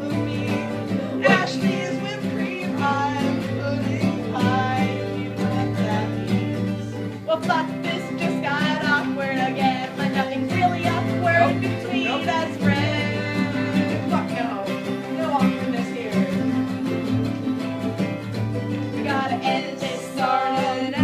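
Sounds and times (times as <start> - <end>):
guitar: 0.0 - 21.0
person singing country song: 0.0 - 21.0.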